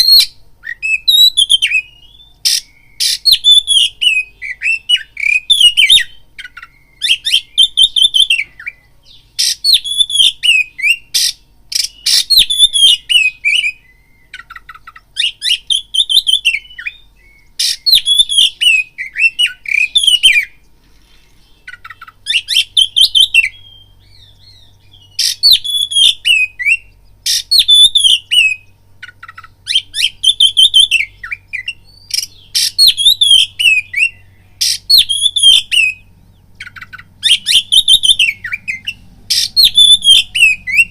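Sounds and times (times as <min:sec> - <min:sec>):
bird singing whistled phrases: 0:00.0 - 0:20.6, 0:21.5 - 0:40.9.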